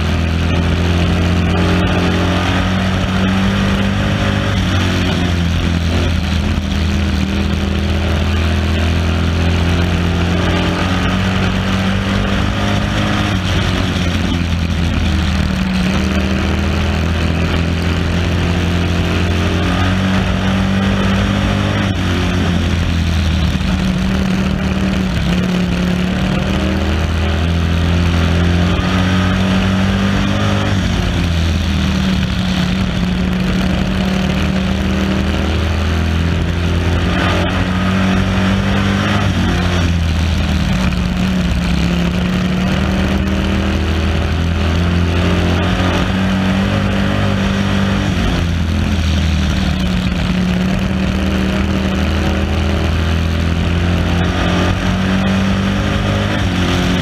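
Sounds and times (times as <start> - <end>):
race car engine revving: 0.0 - 57.0
wind and road noise: 0.0 - 57.0.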